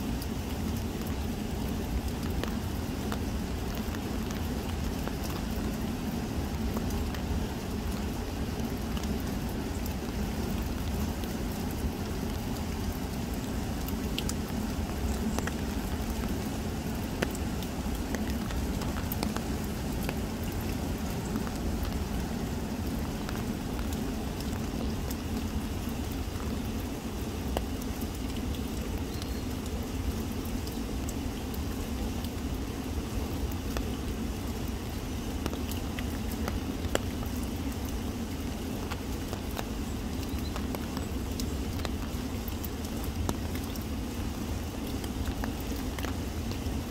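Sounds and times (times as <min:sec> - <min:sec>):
rain on wet leaves: 0:00.0 - 0:46.9
river flowing: 0:00.0 - 0:46.9.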